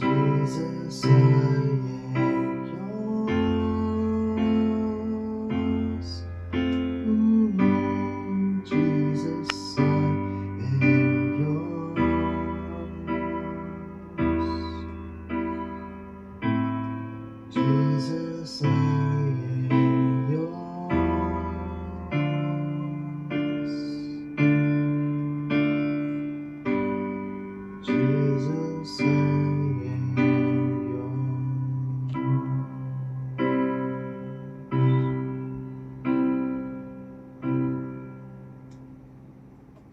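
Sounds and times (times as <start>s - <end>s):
sustained piano chords: 0.0s - 39.9s.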